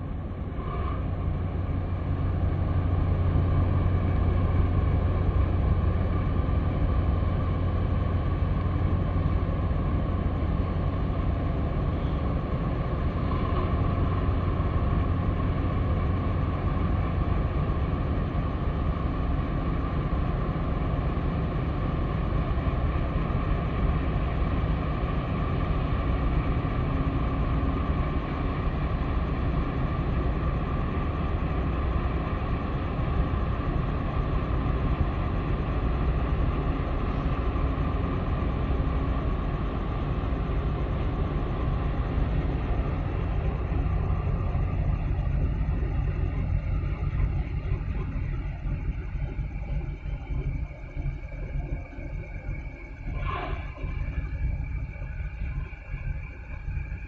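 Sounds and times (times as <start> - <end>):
faint whine: 0.0 - 57.0
ship diesel engine rumble: 0.0 - 57.0.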